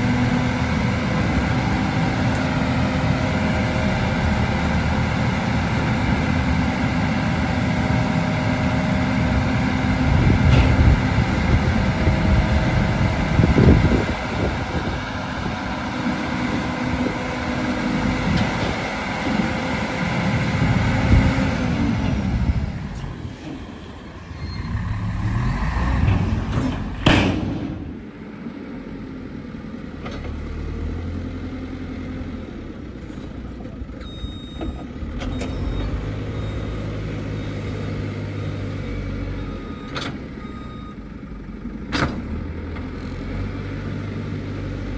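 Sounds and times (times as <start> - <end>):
heavy diesel engines revving: 0.0 - 44.9.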